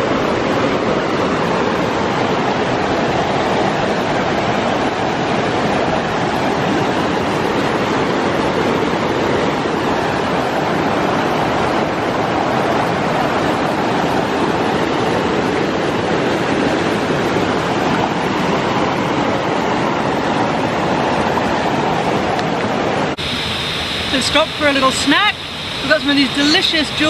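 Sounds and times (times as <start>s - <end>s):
stream rushing over rocks: 0.0s - 27.0s.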